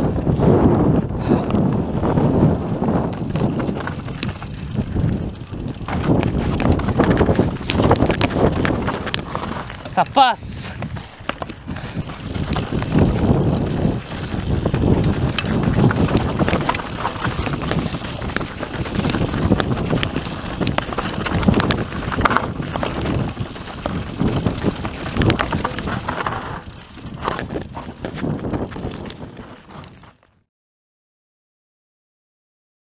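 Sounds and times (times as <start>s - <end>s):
wind buffeting microphone: 0.0s - 30.3s
bike rumble: 0.0s - 30.5s
tyres rattling over stones: 3.0s - 30.1s.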